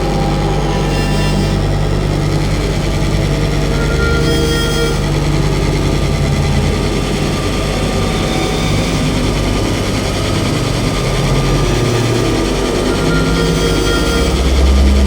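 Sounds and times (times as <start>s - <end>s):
dark ambient drone music: 0.0s - 15.0s.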